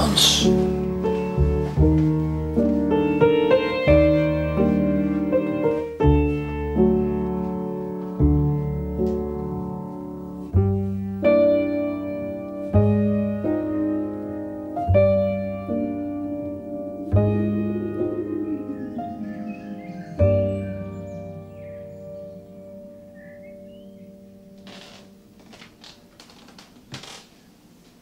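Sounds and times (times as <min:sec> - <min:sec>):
slow piano chords: 0:00.0 - 0:27.2.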